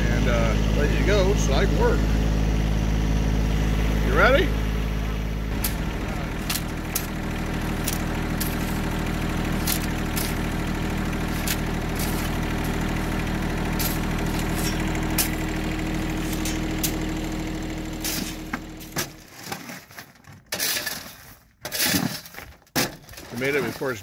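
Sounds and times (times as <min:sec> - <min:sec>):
vehicle engine running steadily: 0:00.0 - 0:19.3.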